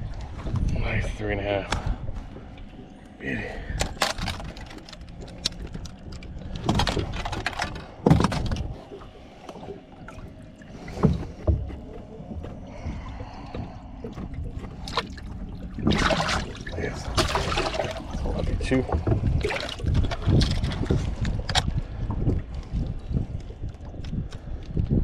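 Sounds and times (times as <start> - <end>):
knocks and thumps on a boat: 0.0 - 25.0
low steady rumble: 0.0 - 25.0.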